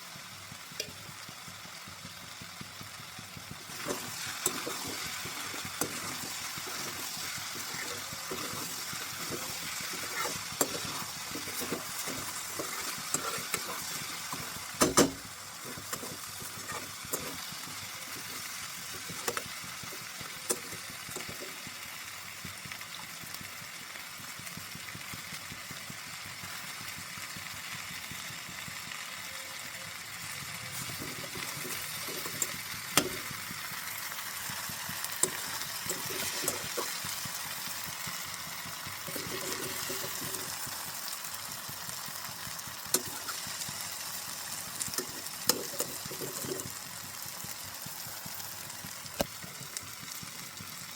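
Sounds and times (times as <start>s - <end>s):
cabbage sizzling in a pan: 0.0s - 50.9s.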